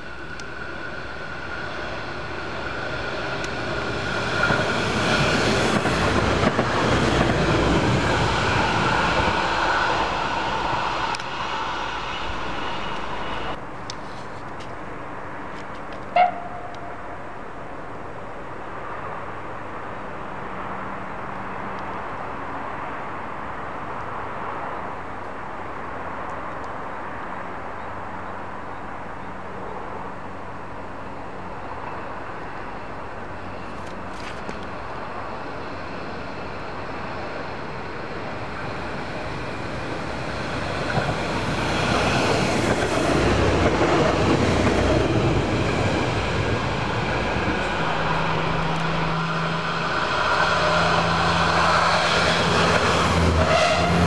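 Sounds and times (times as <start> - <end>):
railcar engine and wheel noise: 0.0 - 54.0
railcar engine low drone: 0.0 - 54.0.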